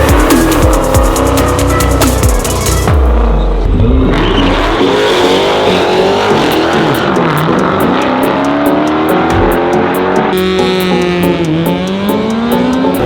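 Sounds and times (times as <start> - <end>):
vehicle engines revving: 0.0 - 13.0.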